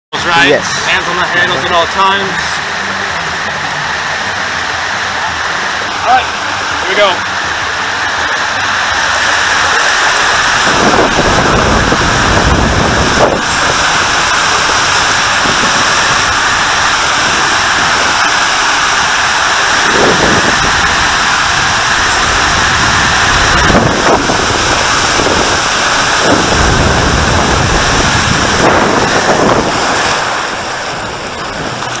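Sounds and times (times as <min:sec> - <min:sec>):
water and air rushing in slide: 0:00.2 - 0:32.0.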